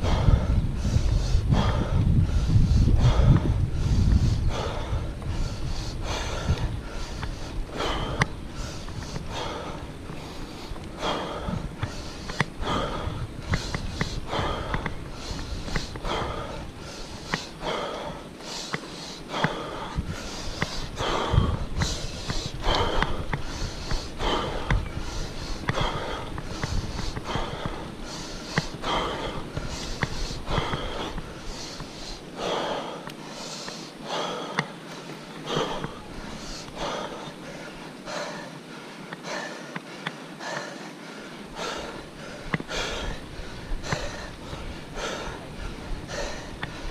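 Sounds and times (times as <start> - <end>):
heavy laboured breathing: 0.0 - 46.9.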